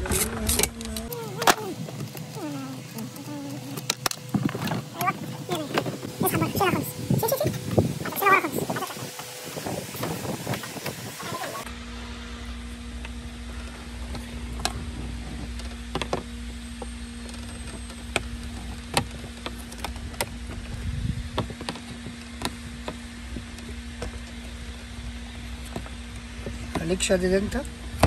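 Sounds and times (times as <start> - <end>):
steady hum and low rumble: 0.0 - 28.0.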